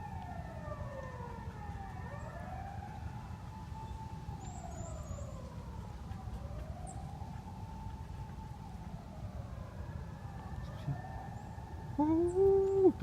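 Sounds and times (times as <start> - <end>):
ambulance siren wailing: 0.0 - 13.0.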